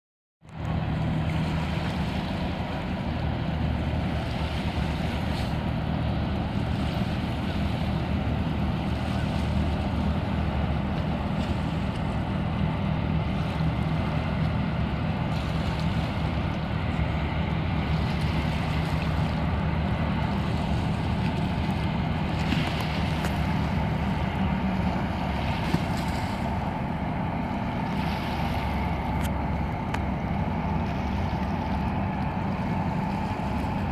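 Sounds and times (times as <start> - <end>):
boat diesel engines droning: 0.4 - 33.9
boat wake wash: 0.4 - 33.9.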